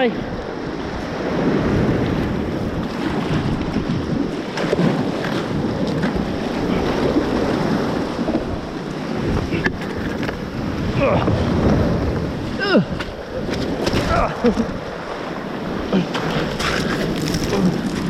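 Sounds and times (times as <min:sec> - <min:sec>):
surf washing on shore: 0:00.0 - 0:18.0
wind buffeting microphone: 0:00.0 - 0:18.0.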